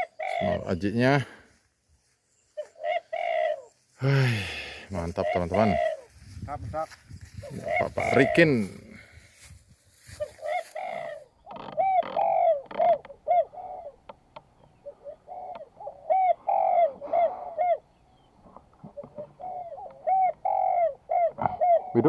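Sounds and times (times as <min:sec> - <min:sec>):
dove cooing: 0:00.0 - 0:00.8, 0:02.6 - 0:04.2, 0:05.0 - 0:06.4, 0:07.3 - 0:09.2, 0:10.1 - 0:22.0.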